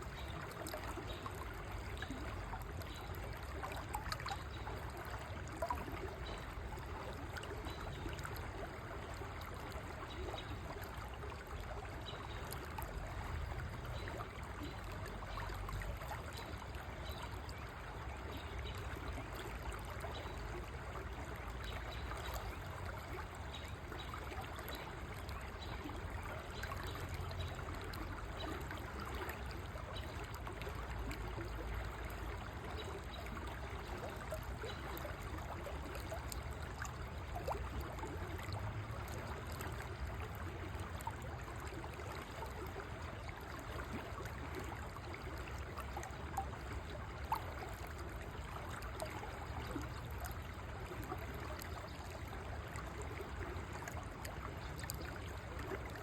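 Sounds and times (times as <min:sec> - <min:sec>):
water plinks: 0:00.0 - 0:56.0.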